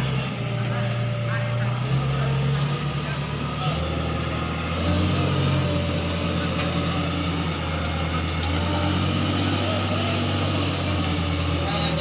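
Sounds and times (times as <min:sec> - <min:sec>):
heavy machine engine droning: 0:00.0 - 0:12.0.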